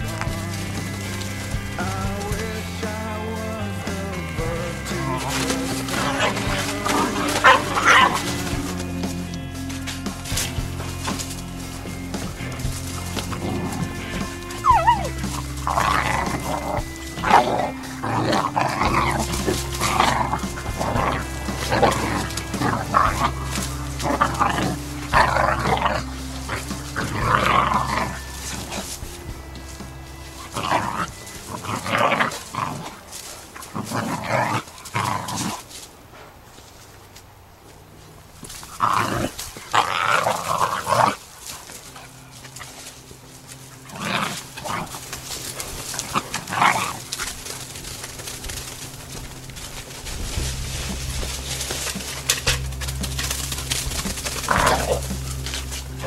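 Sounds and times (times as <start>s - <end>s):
dogs barking and growling: 0.0s - 36.5s, 37.8s - 56.0s.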